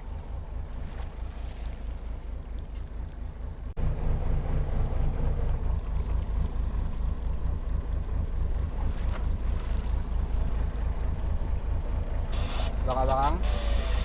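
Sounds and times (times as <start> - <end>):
sea washing around boat: 0.0 - 14.0.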